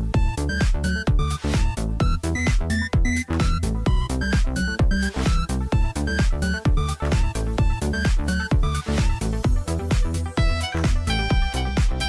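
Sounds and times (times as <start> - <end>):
electronic dance music: 0.0 - 12.0
kick drum beat: 0.0 - 12.0.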